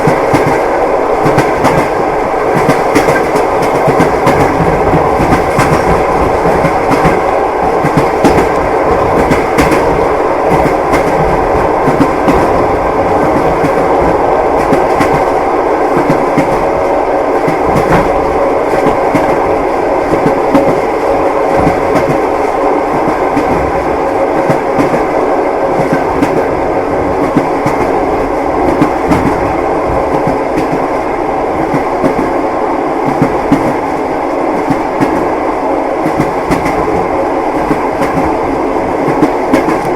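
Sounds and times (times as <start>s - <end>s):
train wheels clattering over rails: 0.0s - 31.0s, 31.6s - 32.4s, 33.0s - 35.3s, 36.0s - 39.9s.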